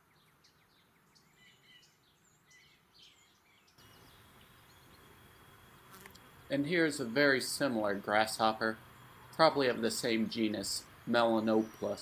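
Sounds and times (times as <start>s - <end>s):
distant birds chirping: 0.0s - 12.0s
faint steady high hum: 1.2s - 12.0s.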